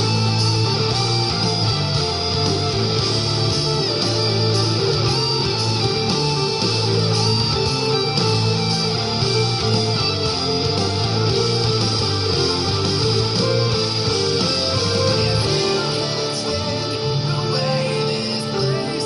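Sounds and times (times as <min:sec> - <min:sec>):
guitar music with strong beat: 0:00.0 - 0:19.0.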